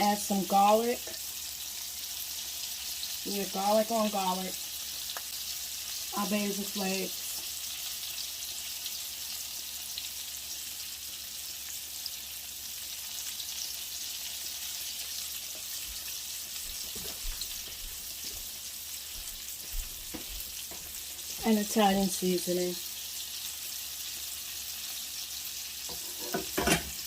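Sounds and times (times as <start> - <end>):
garlic sizzling in oil: 0.0 - 27.0.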